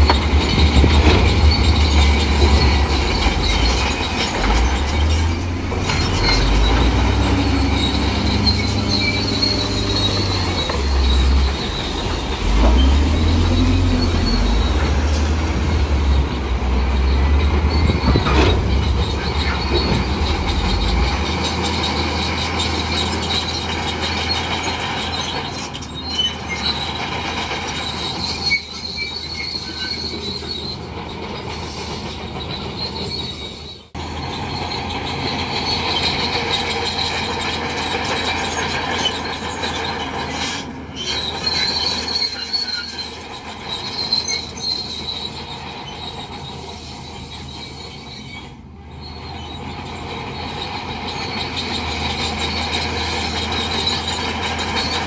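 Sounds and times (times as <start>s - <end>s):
bulldozer diesel engine under load: 0.0s - 55.0s
steel tracks squealing and clattering: 0.0s - 55.0s.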